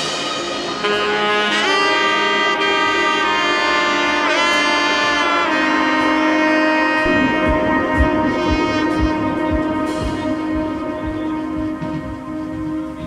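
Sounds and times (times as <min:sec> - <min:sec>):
melody of sliding held notes: 0:00.0 - 0:13.0.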